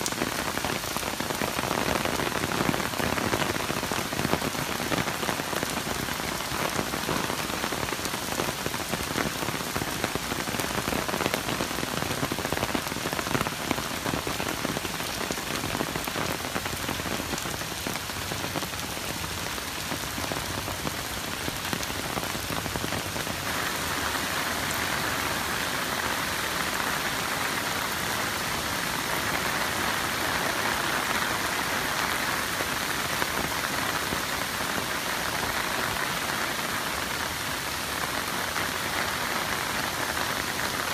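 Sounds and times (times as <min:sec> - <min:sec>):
heavy rain on wet road: 0:00.0 - 0:40.9.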